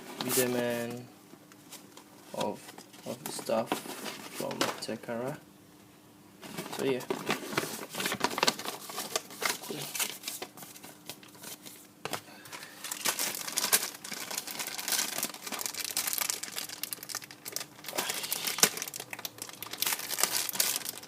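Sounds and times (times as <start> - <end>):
paper and plastic crinkling: 0.0 - 1.0, 1.6 - 5.0, 6.4 - 21.0.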